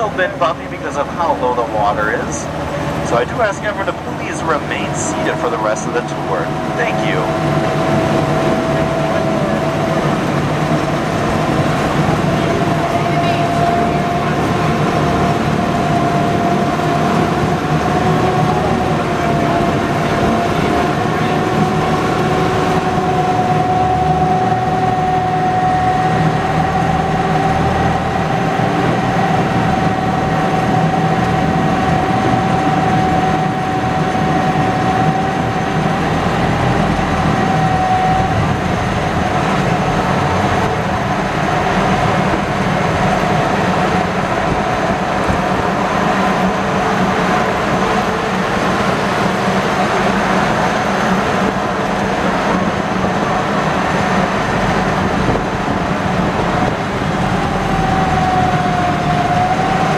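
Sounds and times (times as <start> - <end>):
boat engine running: 0.0 - 59.9
steady whine: 0.0 - 59.9.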